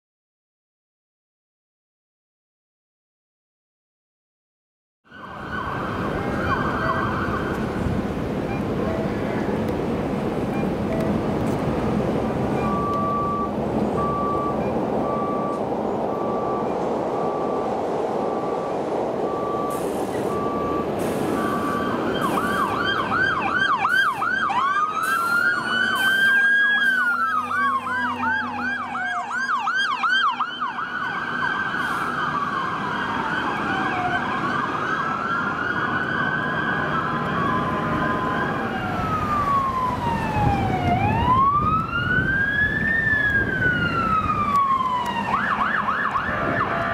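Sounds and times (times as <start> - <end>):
electronic sirens yelping and wailing: 5.1 - 46.9
truck engine rumble: 5.1 - 46.9.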